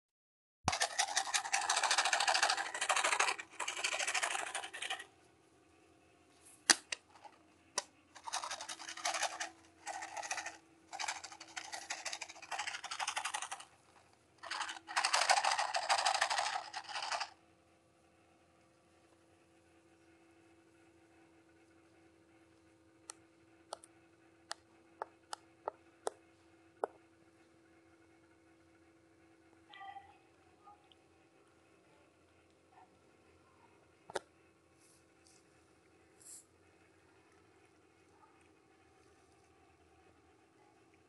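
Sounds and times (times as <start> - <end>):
faint steady hum: 0.7 - 41.0.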